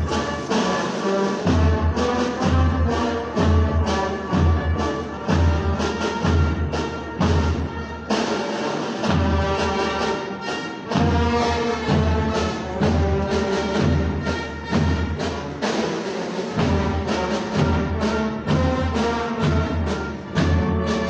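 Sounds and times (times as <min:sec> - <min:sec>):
brass music: 0:00.0 - 0:21.0.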